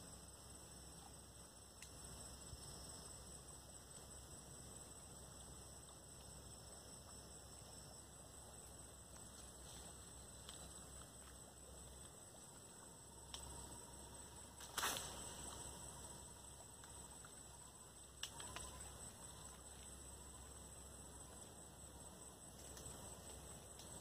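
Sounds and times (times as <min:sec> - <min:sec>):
faint high-pitched hiss: 0:00.0 - 0:24.0.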